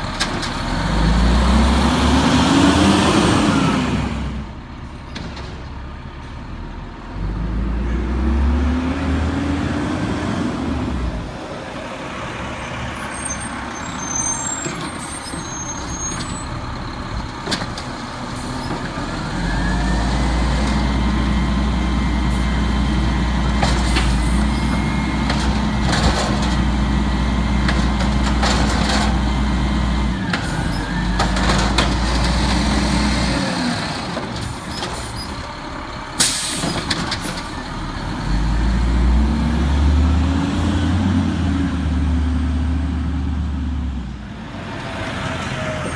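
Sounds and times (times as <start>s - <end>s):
garbage truck diesel engine revving: 0.0s - 5.0s, 6.5s - 45.9s.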